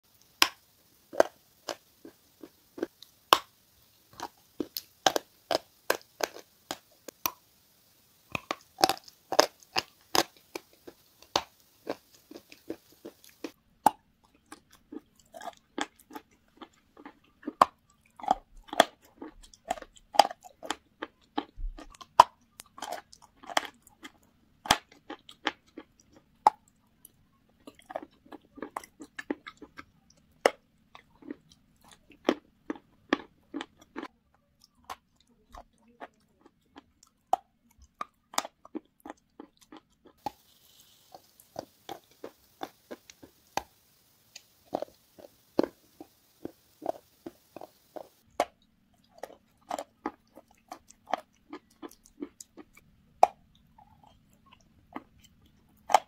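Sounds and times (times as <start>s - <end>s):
chalk crunching and chewing: 0.2s - 7.4s, 8.3s - 56.0s.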